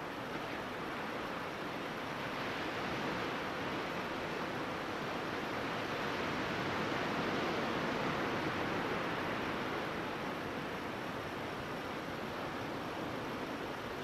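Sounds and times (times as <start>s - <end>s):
ocean surf washing up beach: 0.0s - 14.0s.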